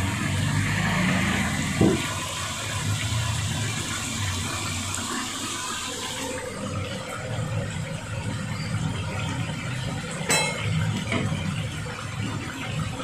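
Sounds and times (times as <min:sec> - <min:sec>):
meat bubbling and sizzling in pot: 0:00.0 - 0:13.0.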